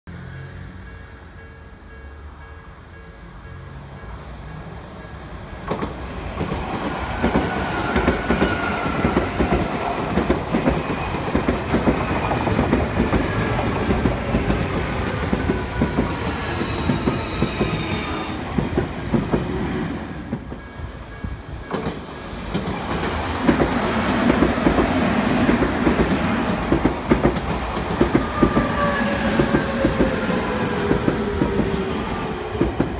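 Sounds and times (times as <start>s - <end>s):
train rumble: 0.8s - 32.9s.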